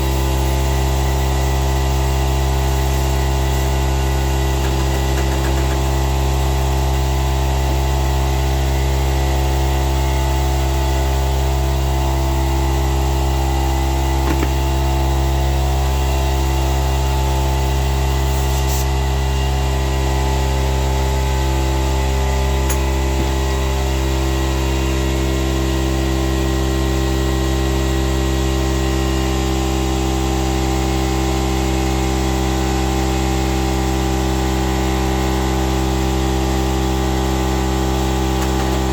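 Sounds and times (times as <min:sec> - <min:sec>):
motor running steadily: 0:00.0 - 0:38.9.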